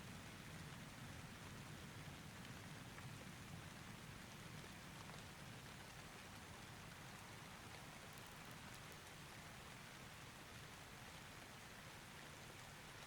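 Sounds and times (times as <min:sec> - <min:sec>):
faint steady rain: 0:00.0 - 0:13.0.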